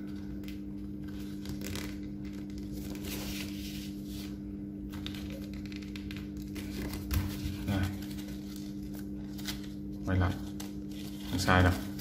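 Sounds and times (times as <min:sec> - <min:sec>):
steady low hum: 0:00.0 - 0:12.0
paper being folded: 0:00.1 - 0:12.0.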